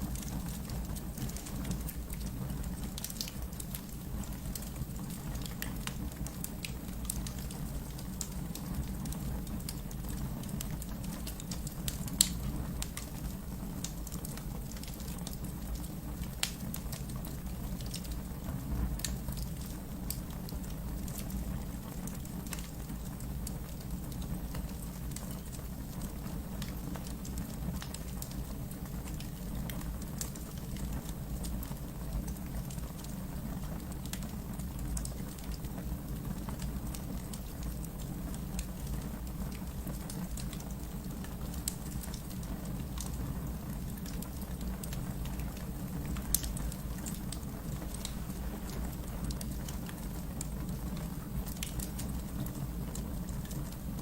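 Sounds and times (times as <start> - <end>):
fire crackling in fireplace: 0.0 - 54.0
wood fire popping: 0.1 - 54.0.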